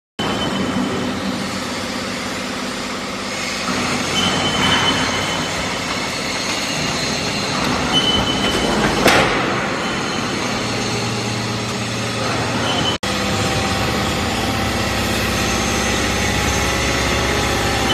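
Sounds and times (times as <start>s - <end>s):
baler machine drone: 0.2s - 17.9s
high hydraulic whine: 0.2s - 17.9s.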